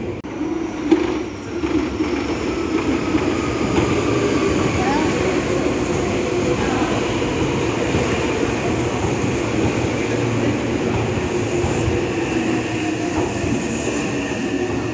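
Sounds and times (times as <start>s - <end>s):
electric train passing: 0.0s - 14.9s.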